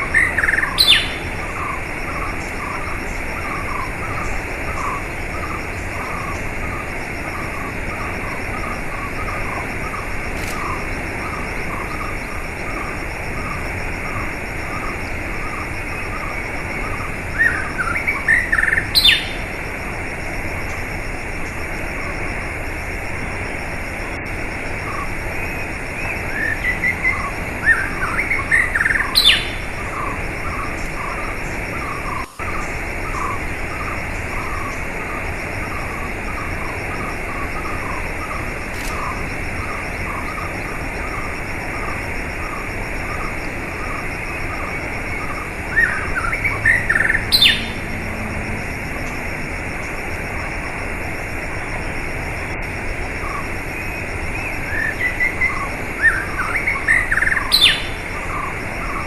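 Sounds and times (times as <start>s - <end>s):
bird call with rising sweep: 0.0s - 19.6s, 24.7s - 50.1s, 53.2s - 59.0s
birds chirping: 0.0s - 59.0s.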